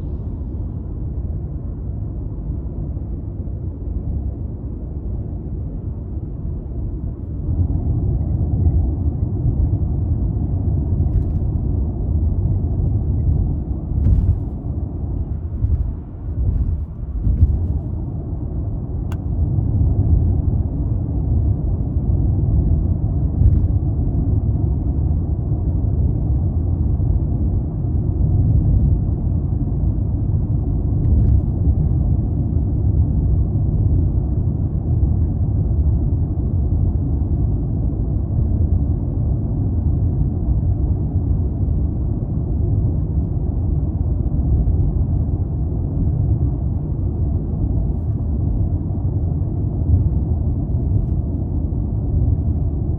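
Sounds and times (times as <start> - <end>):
car road and engine noise: 0.0 - 52.9.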